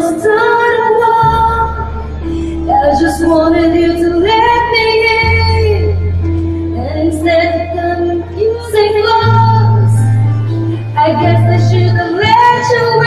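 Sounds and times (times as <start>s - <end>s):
woman singing pop song: 0.0s - 10.1s, 10.8s - 13.0s
sustained bass notes: 0.0s - 13.0s.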